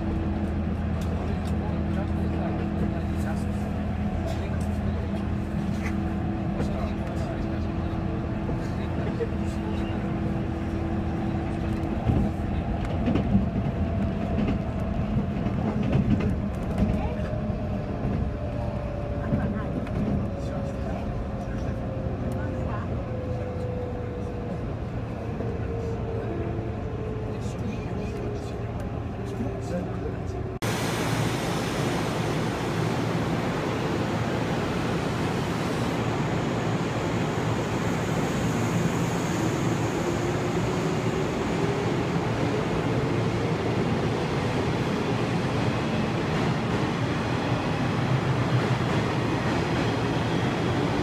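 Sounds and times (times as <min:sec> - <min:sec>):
train wheels and motors rumbling: 0:00.0 - 0:51.0.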